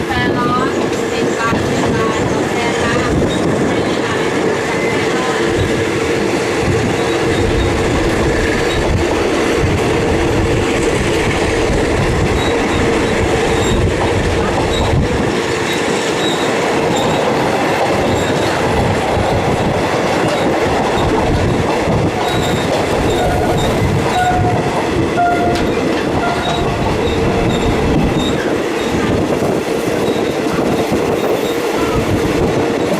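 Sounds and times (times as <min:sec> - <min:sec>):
train wheels clattering on rails: 0:00.0 - 0:32.9.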